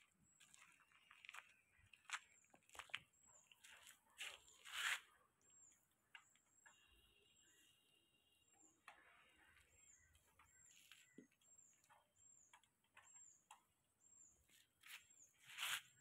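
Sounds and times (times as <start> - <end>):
faint high chirp: 0.0 - 16.0.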